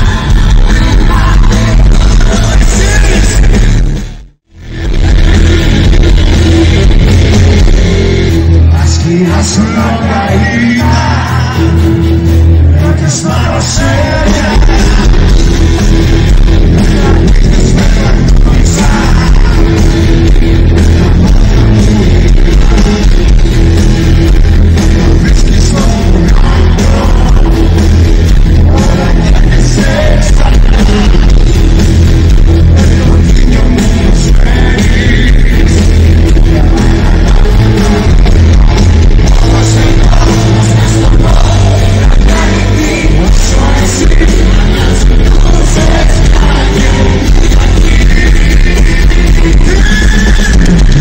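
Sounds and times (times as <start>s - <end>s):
man singing: 0.0s - 3.9s, 4.7s - 51.0s
live pop rock band: 0.0s - 51.0s.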